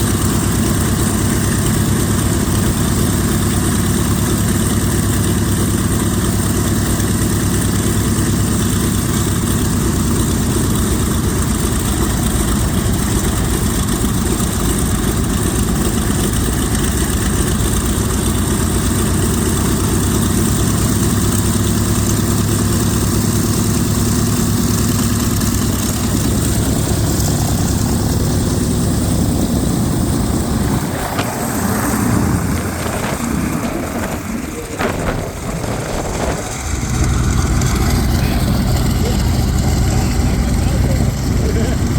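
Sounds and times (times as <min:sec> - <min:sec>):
radial aircraft engine rumbling: 0:00.0 - 0:41.9.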